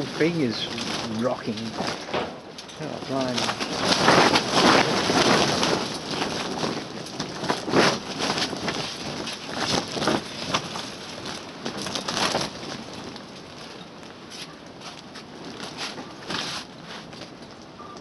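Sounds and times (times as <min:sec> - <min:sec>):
rushing wind: 0:00.0 - 0:17.6
frame rattling: 0:00.0 - 0:17.7
plastic cover flapping in wind: 0:00.0 - 0:18.0.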